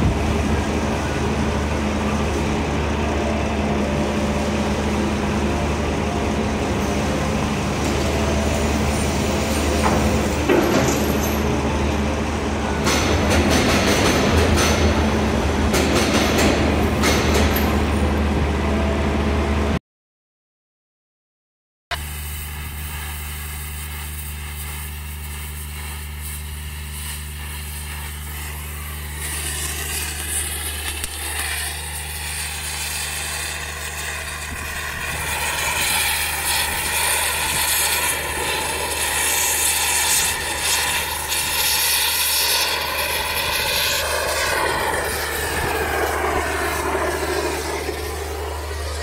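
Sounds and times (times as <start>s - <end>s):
thermal lance hissing roar: 0.0s - 19.7s, 21.9s - 49.0s
low engine hum: 0.0s - 19.8s, 21.9s - 49.0s.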